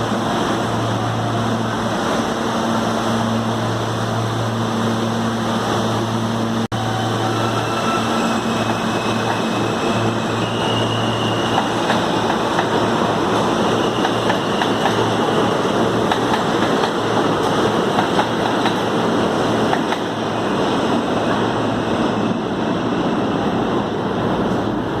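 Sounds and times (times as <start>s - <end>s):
subway train rumbling: 0.0s - 25.0s.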